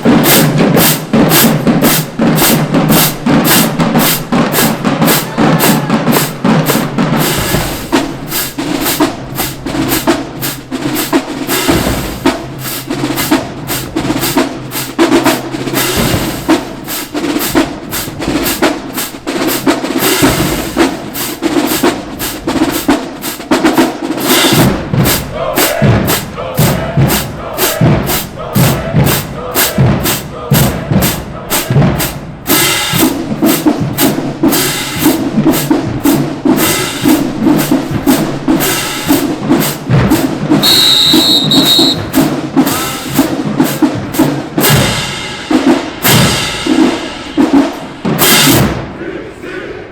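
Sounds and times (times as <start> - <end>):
marching drumline cadence: 0.0 - 49.9.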